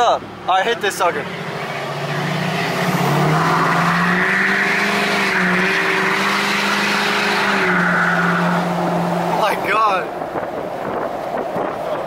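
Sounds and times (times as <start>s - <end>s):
diesel pickup accelerating hard: 0.0s - 12.0s.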